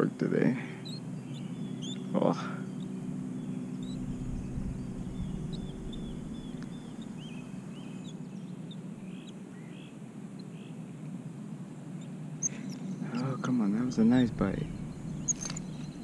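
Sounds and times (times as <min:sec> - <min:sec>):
birds chirping: 0:00.0 - 0:11.2, 0:11.8 - 0:16.0
steady low hum: 0:00.0 - 0:16.0.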